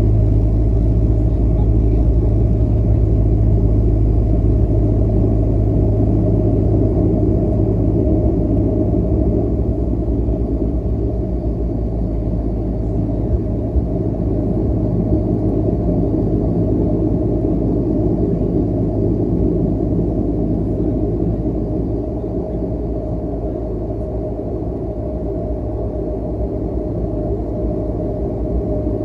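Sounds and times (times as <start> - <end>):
turboprop engines humming: 0.0 - 29.0.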